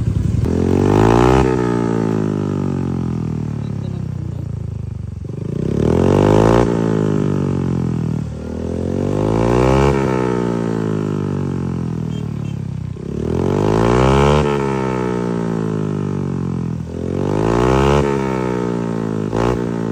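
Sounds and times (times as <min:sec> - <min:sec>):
scooter engine revving: 0:00.0 - 0:19.9.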